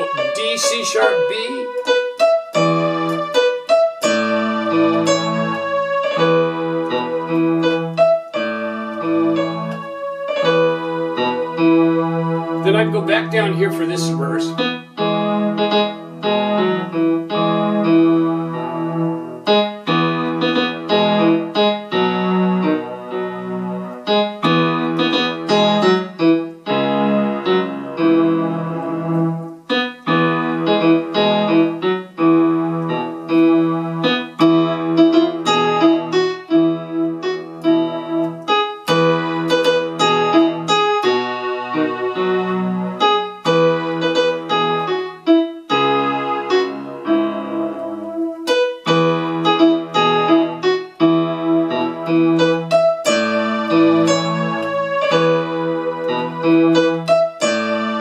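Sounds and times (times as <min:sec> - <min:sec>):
electronic keyboard playing a hymn: 0:00.0 - 0:58.0.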